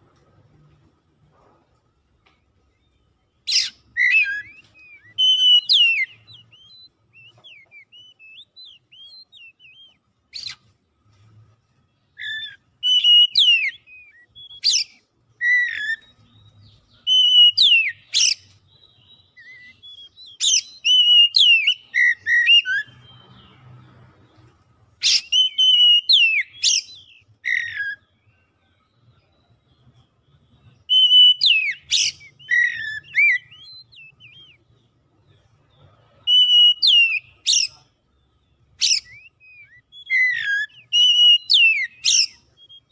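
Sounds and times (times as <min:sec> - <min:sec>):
bird singing: 0:02.6 - 0:42.9.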